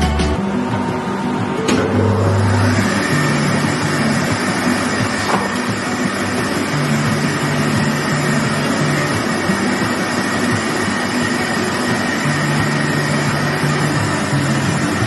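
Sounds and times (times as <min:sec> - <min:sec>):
low motor hum: 0:00.0 - 0:15.0
cutting machine rushing whine: 0:00.3 - 0:15.0.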